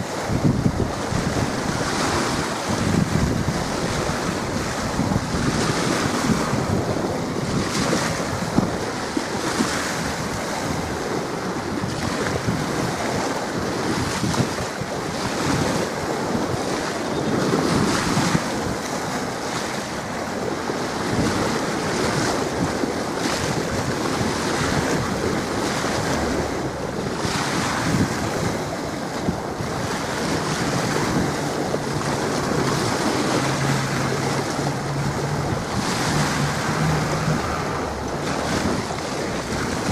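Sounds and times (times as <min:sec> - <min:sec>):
water lapping at shore: 0:00.0 - 0:39.9
wind buffeting microphone: 0:00.0 - 0:39.9.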